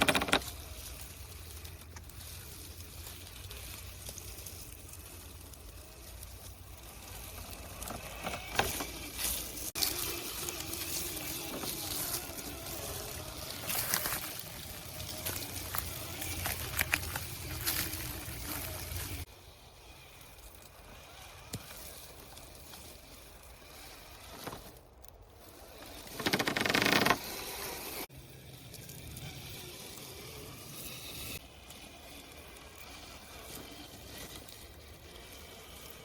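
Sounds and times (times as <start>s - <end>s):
toy truck motor whirring: 0.0s - 36.0s.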